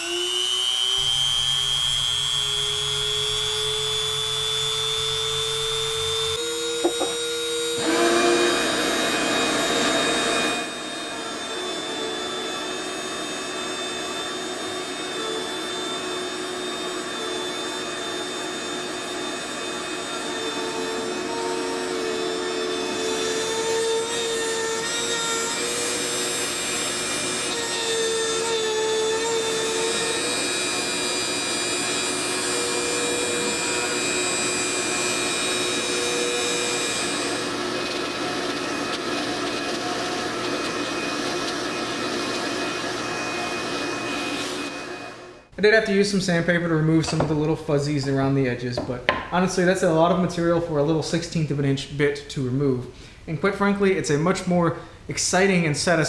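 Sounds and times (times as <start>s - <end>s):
router spindle whining: 0.0s - 45.5s
shop vacuum running: 0.0s - 51.2s.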